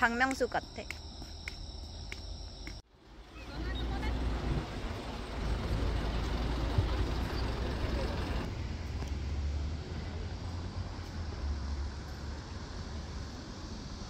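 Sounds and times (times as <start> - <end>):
bus engine rumble: 0.0 - 14.0
street traffic: 0.0 - 14.0.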